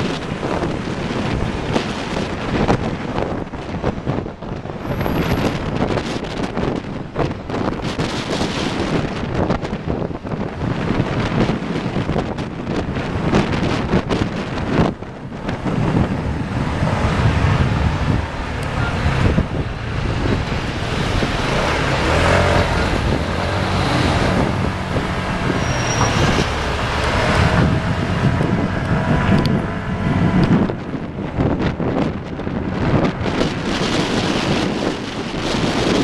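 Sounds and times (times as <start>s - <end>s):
road traffic noise: 0.0s - 36.0s
wind buffeting microphone: 0.0s - 36.0s.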